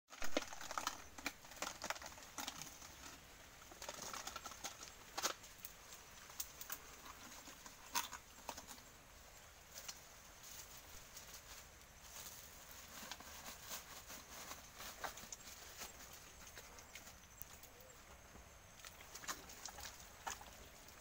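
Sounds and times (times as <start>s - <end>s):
dry palm fronds crackling and snapping: 0.1s - 8.9s, 9.7s - 18.0s, 18.6s - 21.0s.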